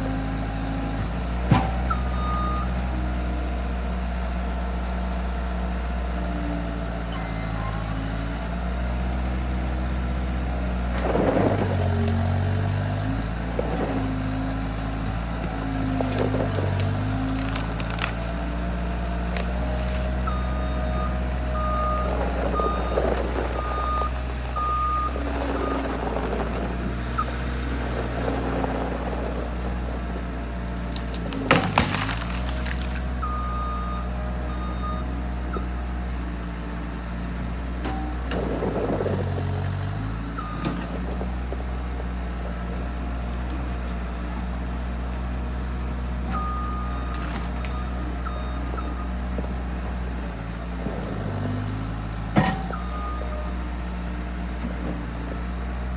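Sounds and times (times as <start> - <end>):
skid loader engine running: 0.0 - 55.9.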